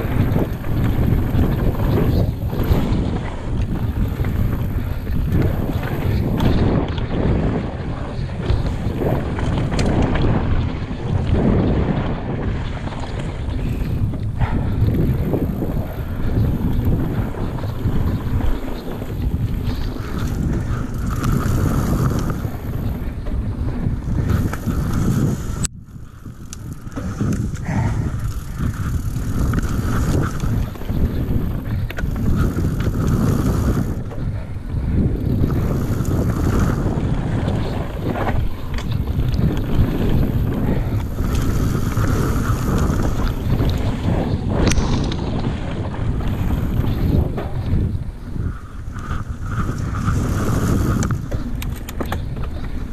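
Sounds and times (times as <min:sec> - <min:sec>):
bike rattle: 0:00.0 - 0:52.9
bike tyre rumble: 0:00.0 - 0:52.9
wind buffeting microphone: 0:00.0 - 0:52.9.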